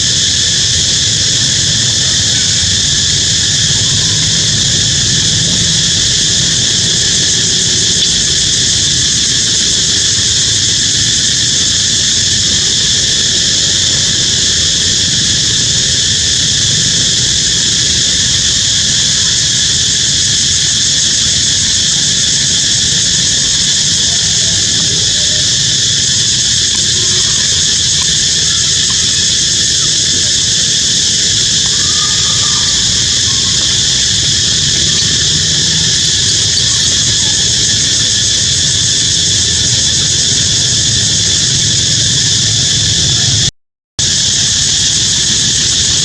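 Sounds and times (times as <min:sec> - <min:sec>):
high-pitched wildlife drone: 0:00.0 - 0:46.0.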